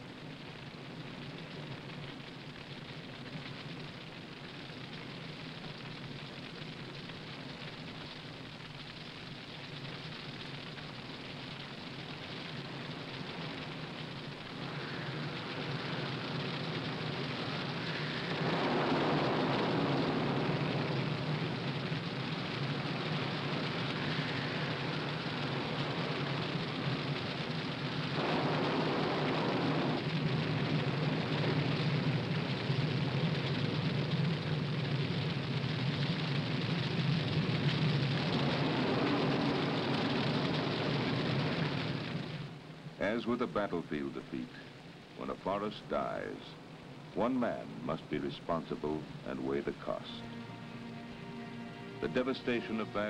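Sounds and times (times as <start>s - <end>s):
forest fire rushing: 0.0s - 53.0s.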